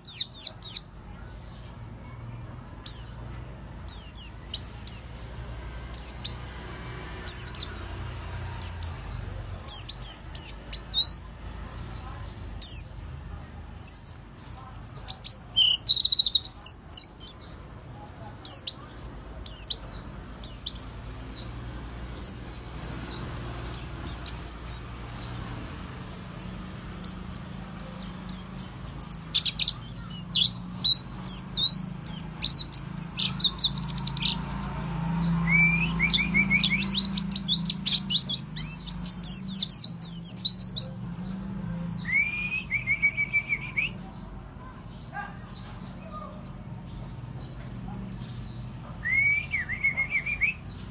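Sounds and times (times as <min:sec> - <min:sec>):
bird chattering song: 0:00.0 - 0:50.9.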